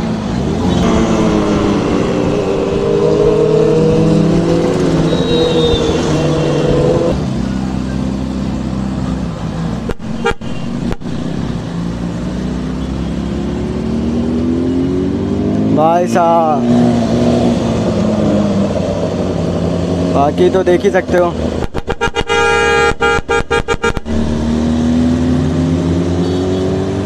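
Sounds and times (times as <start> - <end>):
vehicle engines in traffic: 0.0 - 27.0.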